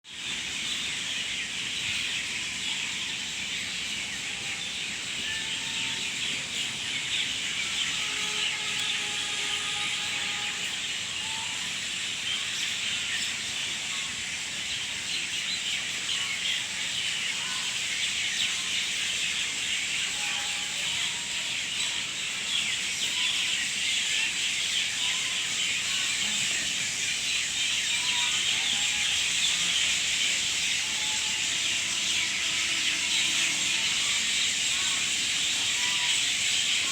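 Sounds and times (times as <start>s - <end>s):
steady high hiss: 0.1s - 36.9s.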